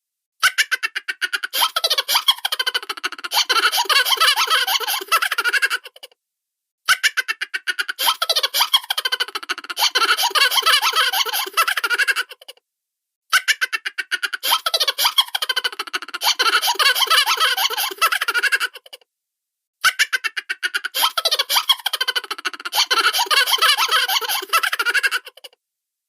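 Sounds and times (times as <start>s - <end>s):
cartoon giggling: 0.4s - 6.1s, 6.9s - 12.6s, 13.3s - 19.0s, 19.8s - 25.6s.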